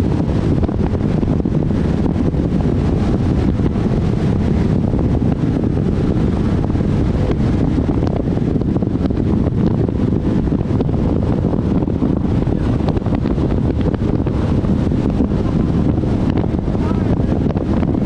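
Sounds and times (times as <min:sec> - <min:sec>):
boat engine: 0:00.0 - 0:18.0
hull on water: 0:00.0 - 0:18.0
wind buffeting microphone: 0:00.0 - 0:18.0.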